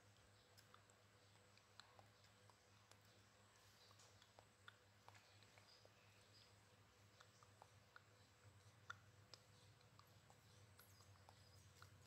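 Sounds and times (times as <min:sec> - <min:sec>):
baby monkey sucking bottle: 0:00.0 - 0:12.0.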